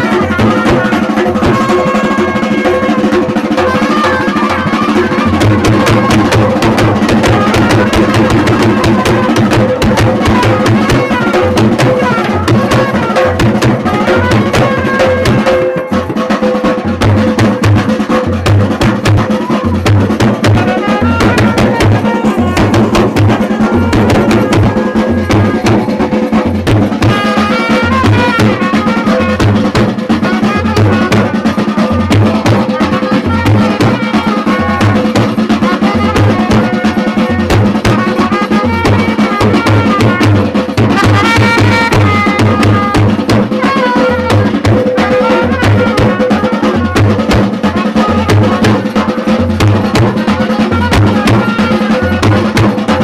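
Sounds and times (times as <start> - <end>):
band melody line: 0.0 - 53.0
drums beating fast rhythm: 0.0 - 53.0.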